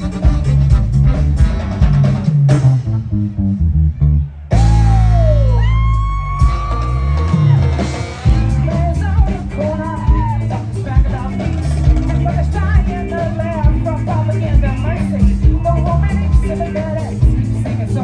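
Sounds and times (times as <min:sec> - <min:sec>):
drum kit beat: 0:00.0 - 0:03.4, 0:04.5 - 0:18.0
bass: 0:00.0 - 0:18.0.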